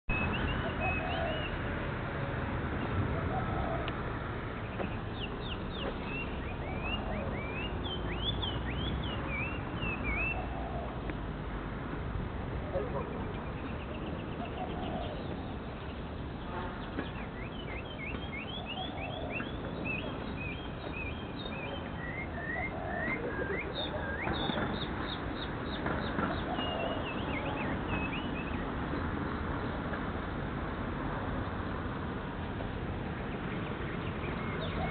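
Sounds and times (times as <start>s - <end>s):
birds chirping: 0.1s - 1.7s, 2.3s - 11.3s, 12.5s - 29.9s, 32.3s - 34.9s.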